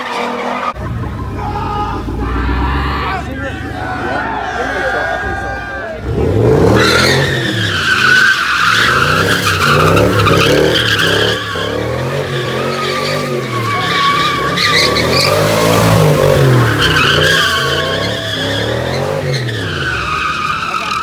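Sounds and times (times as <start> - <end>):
tyres squealing: 0.0 - 21.0
car engine revving: 0.4 - 21.0.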